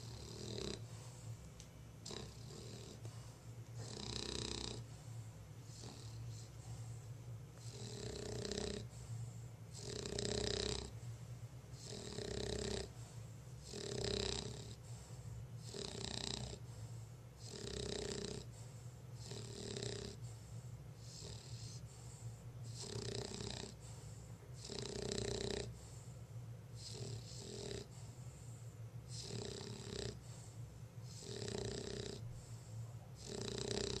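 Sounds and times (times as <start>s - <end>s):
dog snoring: 0.0s - 1.3s, 2.0s - 11.0s, 11.7s - 34.0s.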